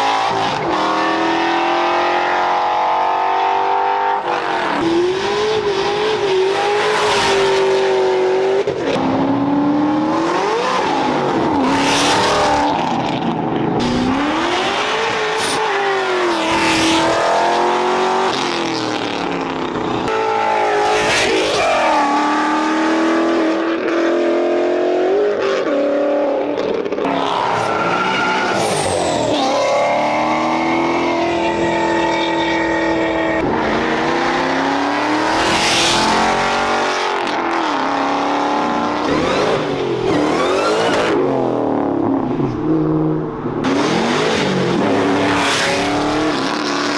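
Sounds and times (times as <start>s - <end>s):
car engines revving hard: 0.0s - 46.9s.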